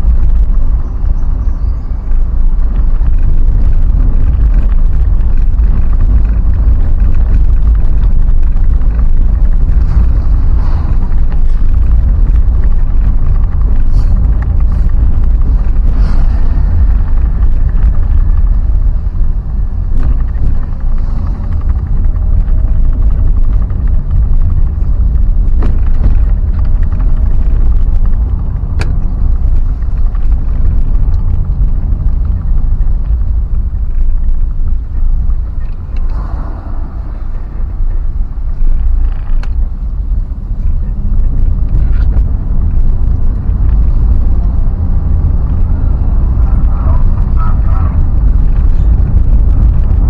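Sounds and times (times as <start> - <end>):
vehicle rumbling on road: 0.0 - 50.0.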